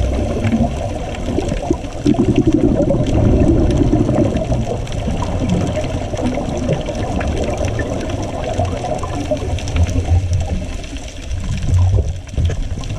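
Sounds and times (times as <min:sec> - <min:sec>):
low rumble: 0:00.0 - 0:12.9
muffled underwater water rush: 0:00.0 - 0:12.9.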